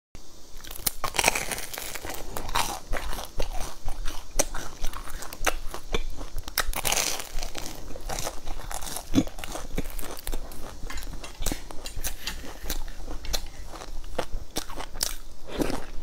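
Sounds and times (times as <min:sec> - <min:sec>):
crunchy chewing: 0:00.5 - 0:16.0.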